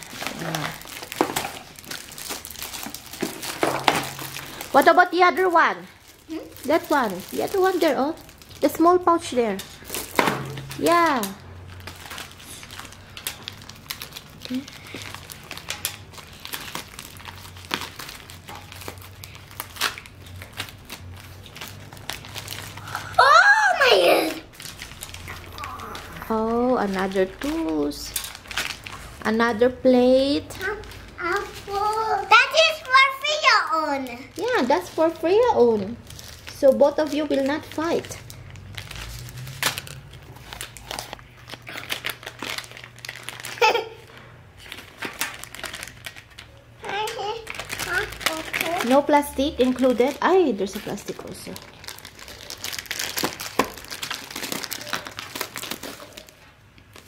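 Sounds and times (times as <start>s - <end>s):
plastic pouch crinkling: 0.0s - 23.2s, 23.8s - 29.7s, 30.4s - 57.0s.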